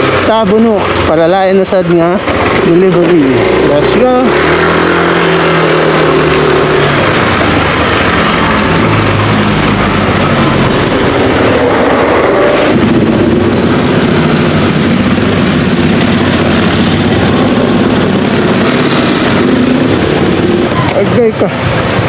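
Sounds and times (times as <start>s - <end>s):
scooter engine running: 0.0s - 22.0s
wind rushing over microphone: 3.4s - 22.0s.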